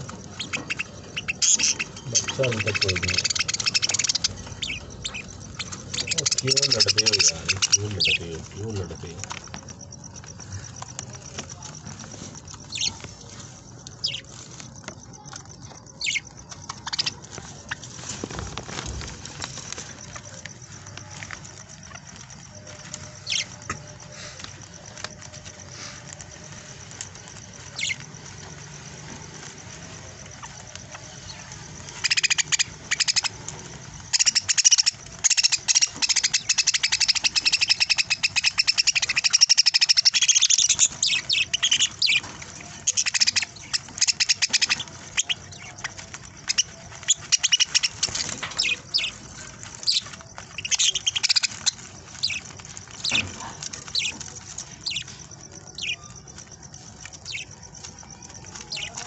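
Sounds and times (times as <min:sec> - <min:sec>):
budgerigars chirping and chattering: 0:00.0 - 0:09.6, 0:10.3 - 0:13.2, 0:14.0 - 0:15.0, 0:15.9 - 0:19.8, 0:22.6 - 0:26.2, 0:27.6 - 0:29.5, 0:30.2 - 0:57.6, 0:58.2 - 0:59.0.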